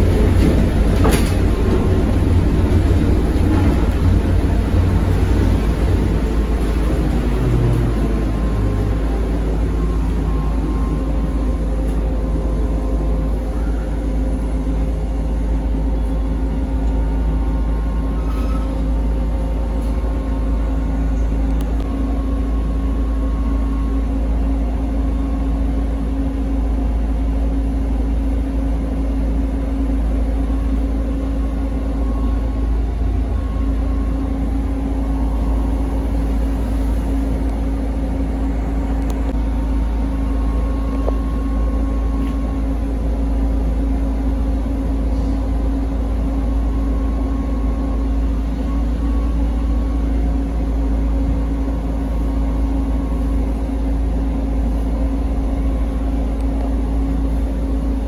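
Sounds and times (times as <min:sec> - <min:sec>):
trolleybus low rumble: 0:00.0 - 0:58.0.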